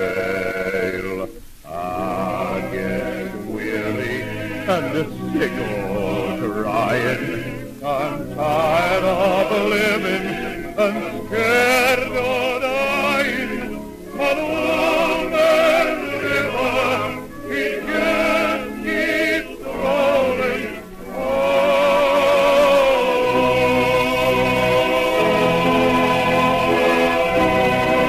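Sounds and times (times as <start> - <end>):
opera singers with orchestra: 0.0 - 28.0.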